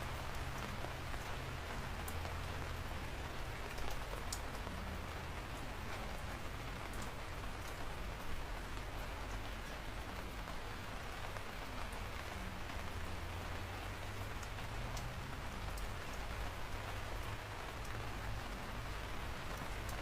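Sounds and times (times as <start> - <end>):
rain falling: 0.0 - 20.0
raindrops ticking on a surface: 0.0 - 20.0.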